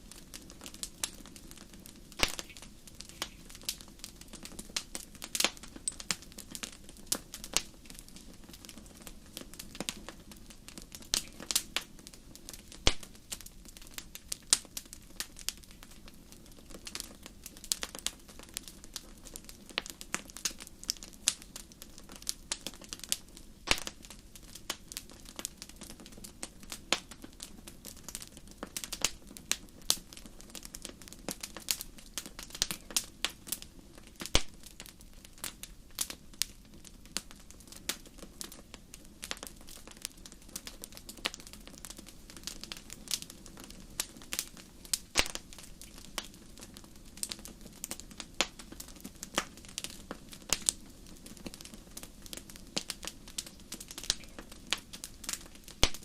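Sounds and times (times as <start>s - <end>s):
fire burning hiss: 0.0s - 56.0s
fire popping and snapping: 0.0s - 56.0s
wood fire crackling: 0.0s - 56.0s.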